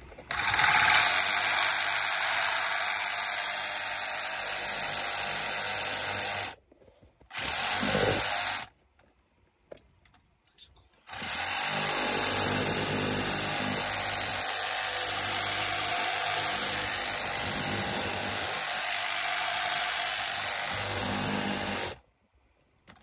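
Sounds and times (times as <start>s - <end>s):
electric drill motor humming: 0.3s - 6.6s, 7.3s - 8.7s, 11.1s - 22.0s.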